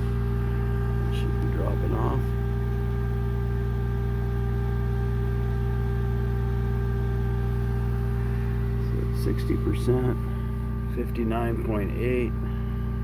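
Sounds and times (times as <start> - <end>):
diesel generator running: 0.0 - 13.0
inverter cooling fan: 0.0 - 13.0.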